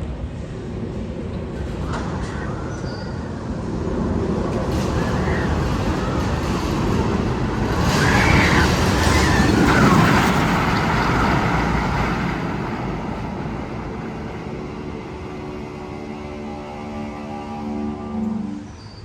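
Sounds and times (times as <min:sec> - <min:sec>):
loud rushing rumble: 0:00.0 - 0:19.0.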